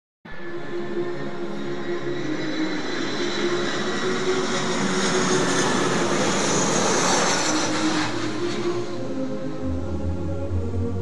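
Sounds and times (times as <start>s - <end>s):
faint high engine whine: 0.3s - 11.0s
jet airliner flying low: 0.3s - 11.0s.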